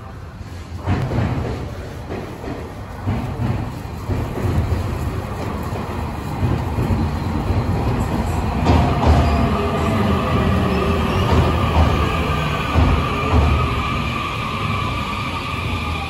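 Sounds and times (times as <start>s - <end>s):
train wheels rumbling: 0.0s - 16.0s
train whine: 2.8s - 16.0s.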